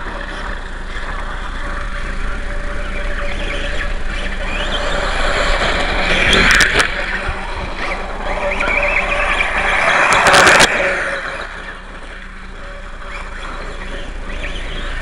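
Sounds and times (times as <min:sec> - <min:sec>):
rc motorcycle motor whine: 0:00.0 - 0:15.0.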